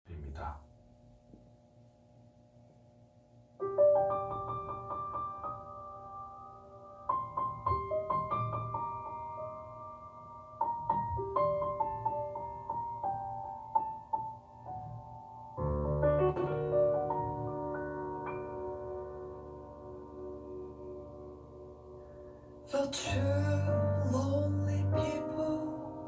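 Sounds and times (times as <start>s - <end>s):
slow piano notes ringing: 3.6s - 26.0s.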